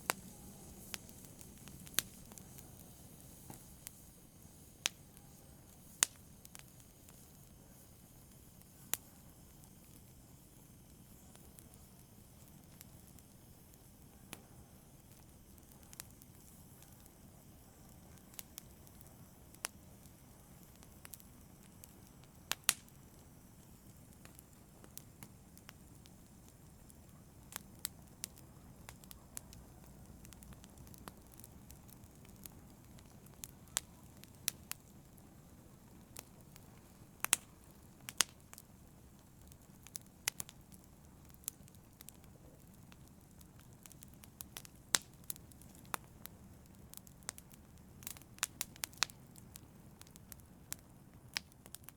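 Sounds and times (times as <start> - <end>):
low rumble of burning: 0.0 - 51.9
wood fire crackling: 0.0 - 51.9.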